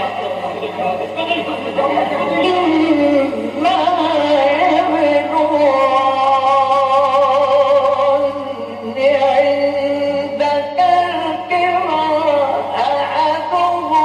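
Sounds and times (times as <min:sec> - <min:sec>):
low recording hum: 0:00.0 - 0:14.0
person reciting melodically: 0:00.0 - 0:14.0.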